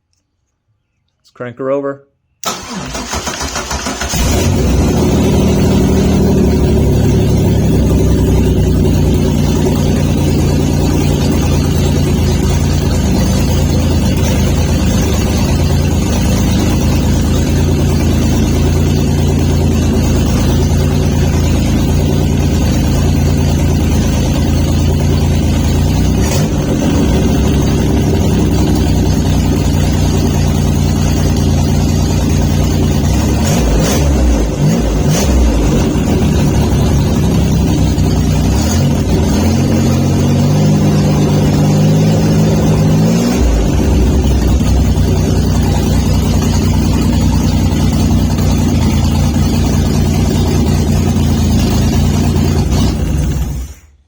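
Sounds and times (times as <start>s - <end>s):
supercharged car engine idling: 2.4s - 54.0s.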